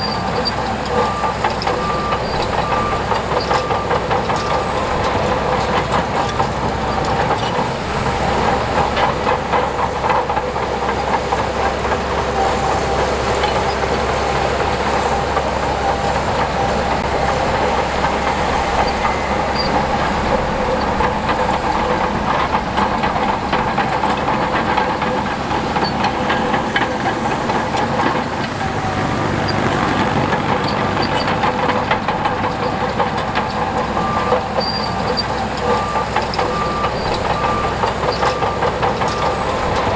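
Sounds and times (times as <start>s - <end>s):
diesel engine under load: 0.0s - 39.9s
steel tracks clanking: 0.0s - 39.9s.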